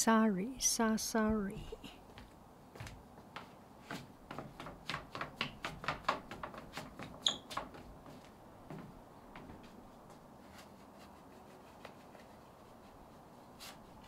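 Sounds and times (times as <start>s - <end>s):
footsteps on wooden deck: 1.2s - 14.0s.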